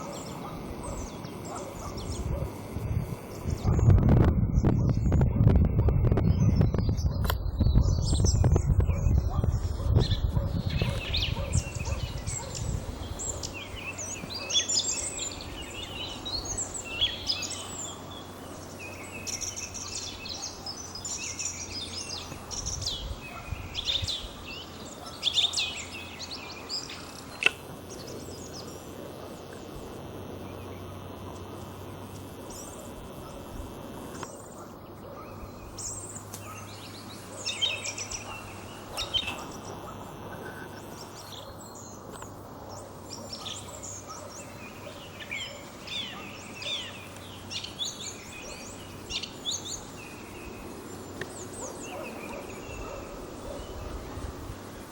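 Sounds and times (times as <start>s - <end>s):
song thrush singing: 0.0s - 33.4s, 34.0s - 54.9s.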